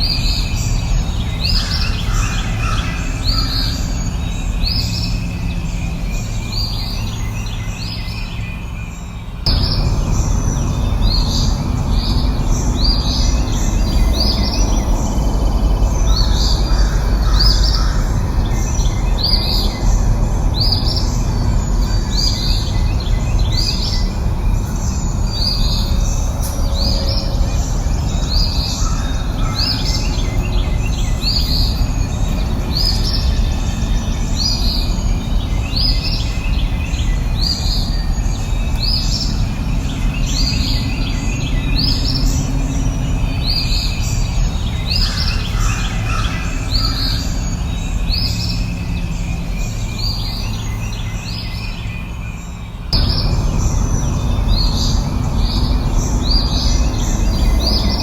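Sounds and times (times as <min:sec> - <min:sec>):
bird chirping: 0:00.0 - 0:58.0
low rumbling background: 0:00.0 - 0:58.0.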